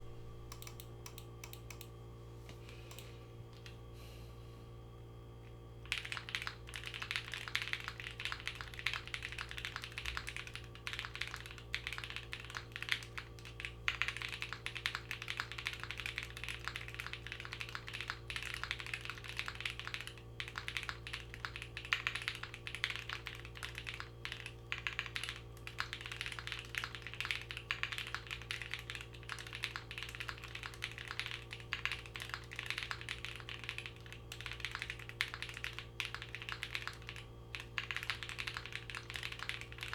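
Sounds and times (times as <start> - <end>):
mechanical keyboard typing: 0.5 - 1.9, 5.8 - 39.9.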